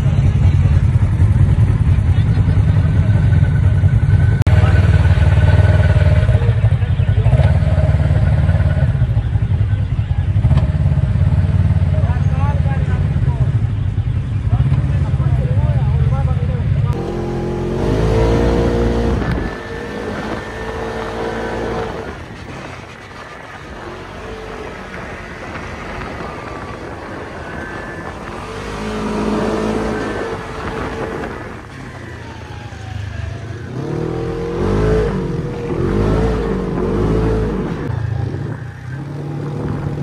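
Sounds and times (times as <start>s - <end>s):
buggy engine revving: 0.0s - 40.0s.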